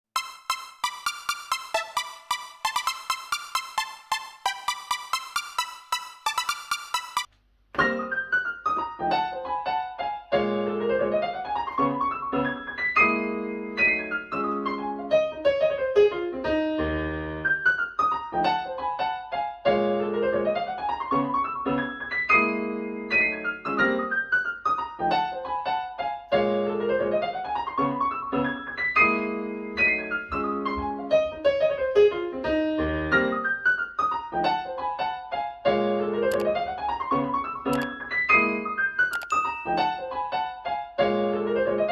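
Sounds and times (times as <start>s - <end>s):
solo piano music: 0.2s - 35.2s.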